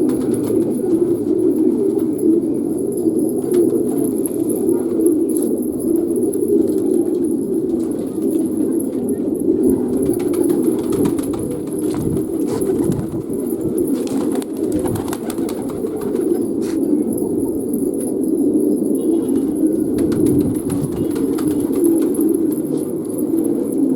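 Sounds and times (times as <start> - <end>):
pigeons cooing: 0.0 - 23.9.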